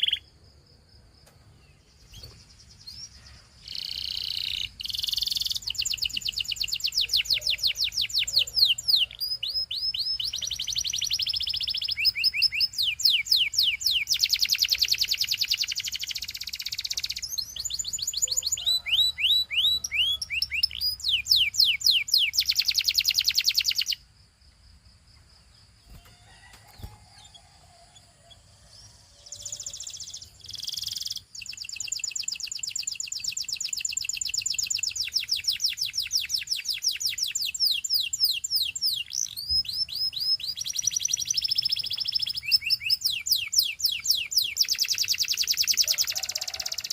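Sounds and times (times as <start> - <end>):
canary singing trills: 0.0 - 0.3, 1.2 - 24.0, 25.2 - 46.9.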